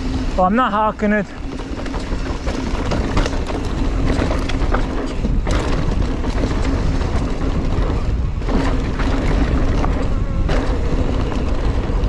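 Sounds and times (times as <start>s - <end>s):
bike clicks and rattles: 0.0s - 12.0s
bike tyre noise on gravel: 0.0s - 12.0s
wind buffeting microphone: 1.4s - 12.0s.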